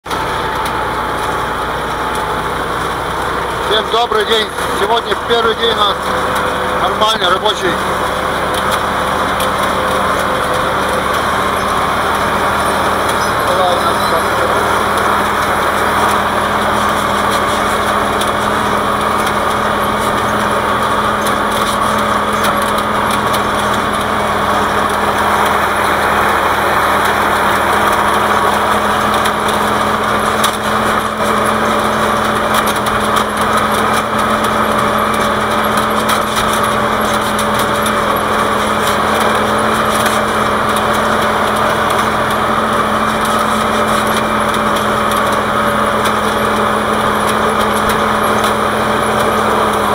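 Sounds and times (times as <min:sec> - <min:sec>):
tractor diesel engine droning: 0:00.0 - 0:49.9.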